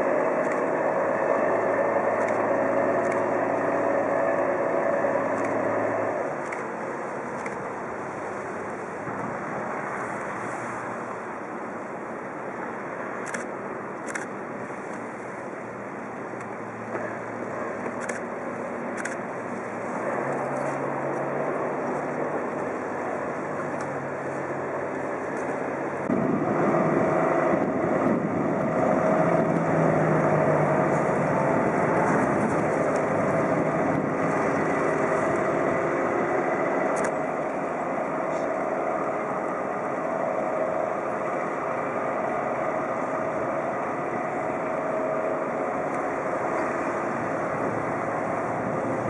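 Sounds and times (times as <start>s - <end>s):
boat diesel engine drone: 0.0s - 49.0s.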